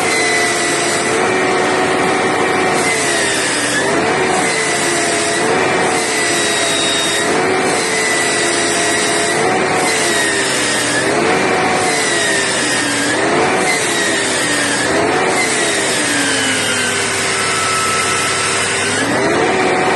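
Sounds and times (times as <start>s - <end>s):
bus engine and road noise: 0.0s - 19.9s
retarder whining: 0.0s - 19.9s.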